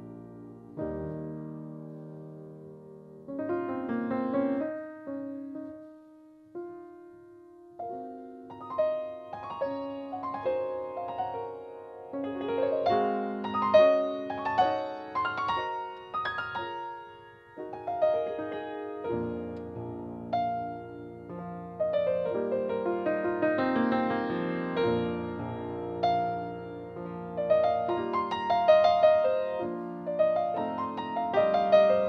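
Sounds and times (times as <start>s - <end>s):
slow solo piano piece: 0.0s - 32.0s.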